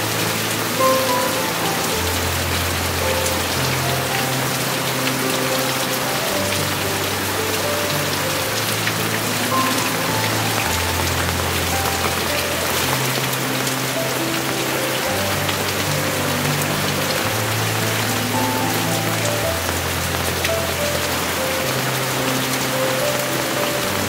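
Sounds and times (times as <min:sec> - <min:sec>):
heavy rain falling: 0:00.0 - 0:24.0
soft background music: 0:00.0 - 0:24.0.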